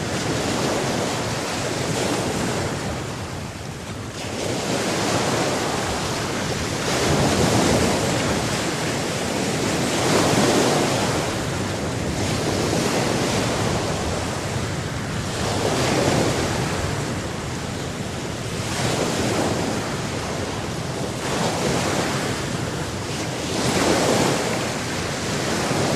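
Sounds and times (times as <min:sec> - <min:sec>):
sea waves breaking on shore: 0:00.0 - 0:25.9.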